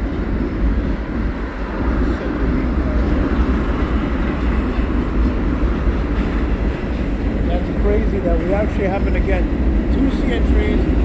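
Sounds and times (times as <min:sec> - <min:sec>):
freight train rumbling on rails: 0:00.0 - 0:11.0.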